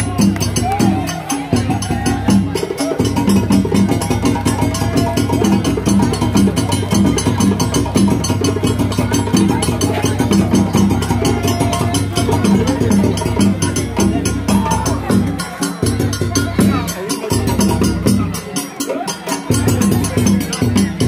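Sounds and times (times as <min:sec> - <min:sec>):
hand drum ensemble playing: 0:00.0 - 0:21.0.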